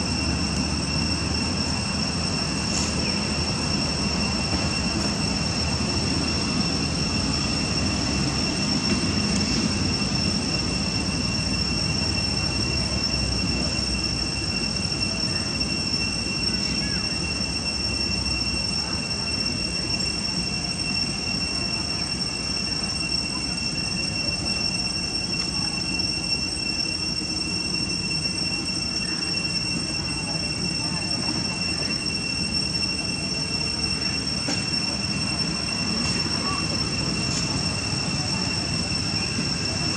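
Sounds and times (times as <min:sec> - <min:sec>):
high-pitched insect whine: 0:00.0 - 0:39.9.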